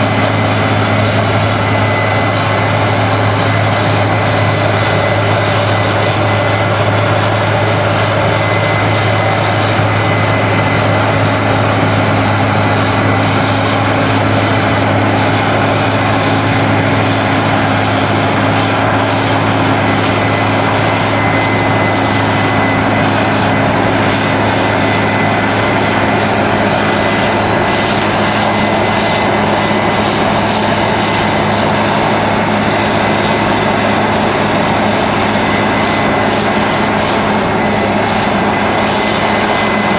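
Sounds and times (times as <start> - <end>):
combine harvester drone: 0.0 - 39.9
thin high whine: 0.0 - 39.9.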